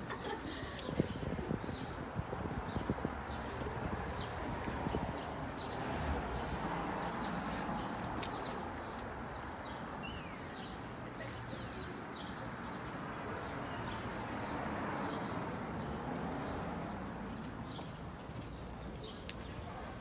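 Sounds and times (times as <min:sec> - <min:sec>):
city street hum: 0:00.0 - 0:20.0.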